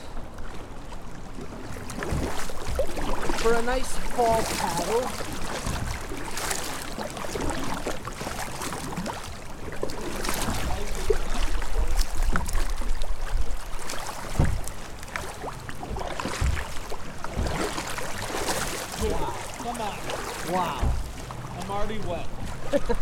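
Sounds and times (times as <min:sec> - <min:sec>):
paddle strokes in water: 0:00.0 - 0:23.0
water splashing against kayak hull: 0:00.0 - 0:23.0.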